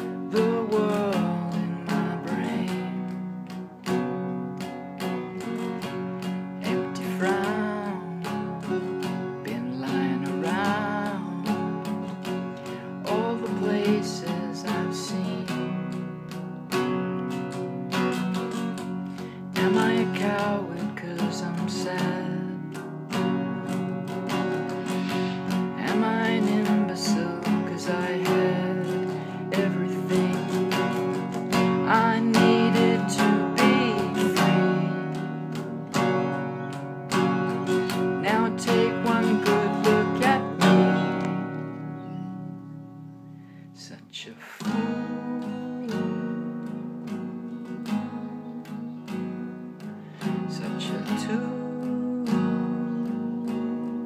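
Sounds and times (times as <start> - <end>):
man singing: 0.0 - 3.6, 5.0 - 17.3, 17.9 - 41.6, 43.8 - 54.0
acoustic guitar strumming: 0.0 - 54.0.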